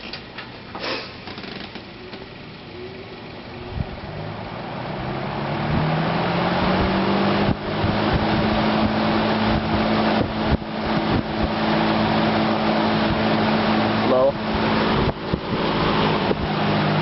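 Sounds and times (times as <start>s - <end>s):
box fan motor humming: 0.0s - 17.0s.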